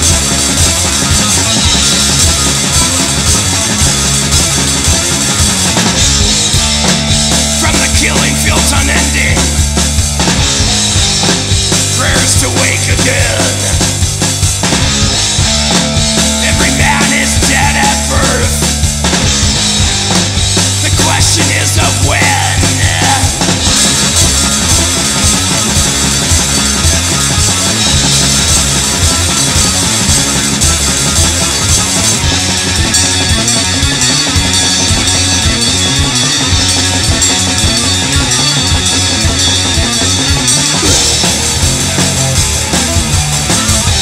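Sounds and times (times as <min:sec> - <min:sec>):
metal music: 0:00.0 - 0:44.0.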